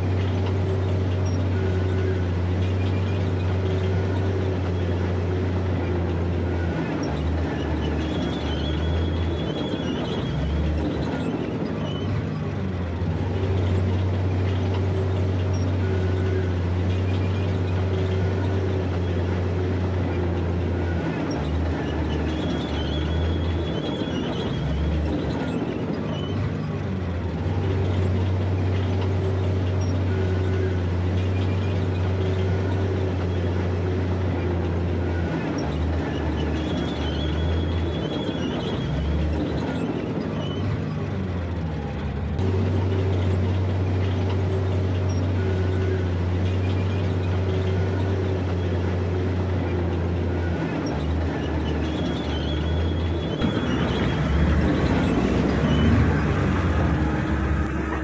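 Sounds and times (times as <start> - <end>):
bulldozer diesel engine droning: 0.0 - 58.0.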